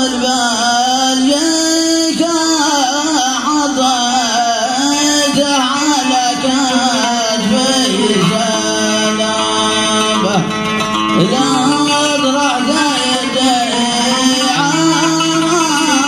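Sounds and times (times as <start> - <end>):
man singing melismatic line: 0.0 - 16.0
plucked oud: 0.0 - 16.0.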